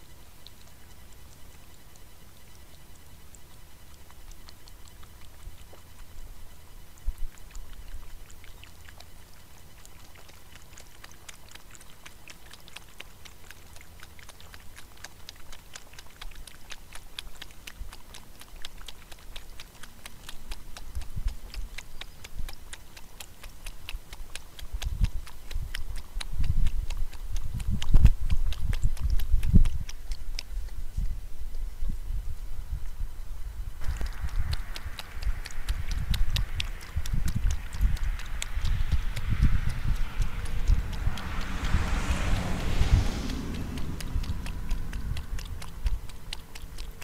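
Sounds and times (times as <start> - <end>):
animal lapping water: 0.0 - 47.0.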